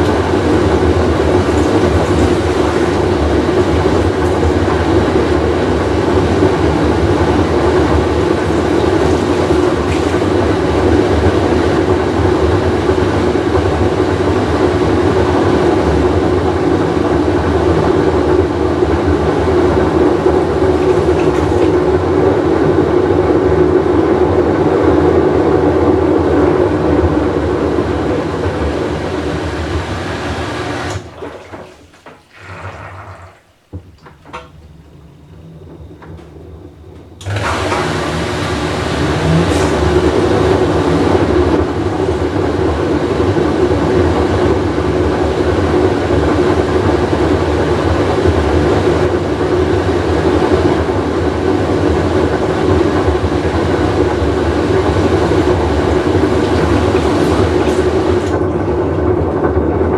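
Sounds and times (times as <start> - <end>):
washing machine rumbling roar: 0.0 - 59.9.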